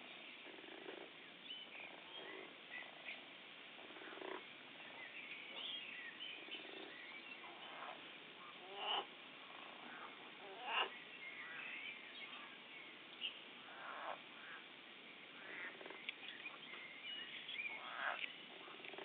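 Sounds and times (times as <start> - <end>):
frogs croaking: 0.4 - 1.2, 1.8 - 11.6, 13.6 - 16.8, 17.4 - 19.0.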